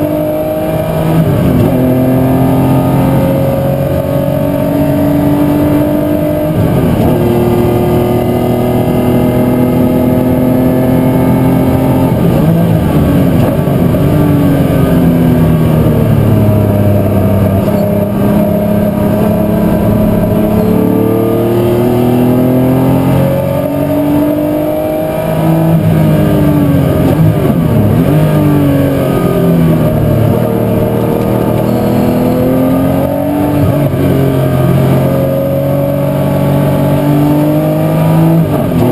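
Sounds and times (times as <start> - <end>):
racing car engine accelerating: 0.0 - 38.9.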